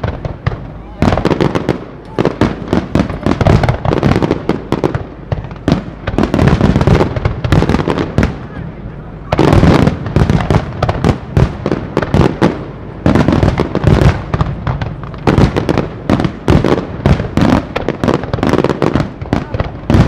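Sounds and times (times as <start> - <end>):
fireworks bangs and crackles: 0.0 - 20.0
heavy firework booms: 0.0 - 20.0.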